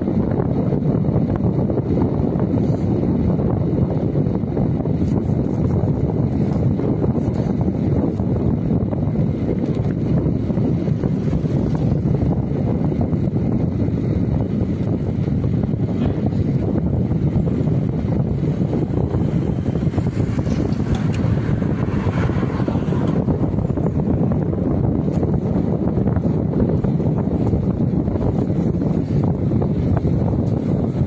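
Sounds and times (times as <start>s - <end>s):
wind over microphone: 0.0s - 31.0s.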